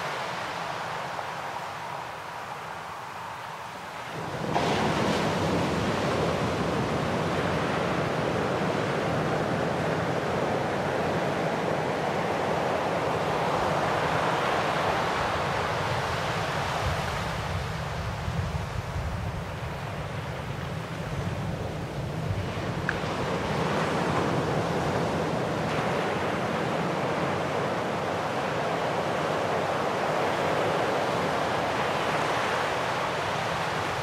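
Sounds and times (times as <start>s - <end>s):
waves breaking on shore: 0.0s - 34.0s.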